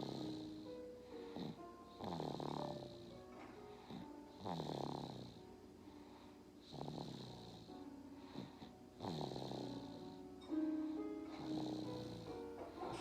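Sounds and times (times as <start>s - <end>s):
baby snoring: 0.0s - 5.5s, 6.1s - 10.2s, 11.3s - 13.0s.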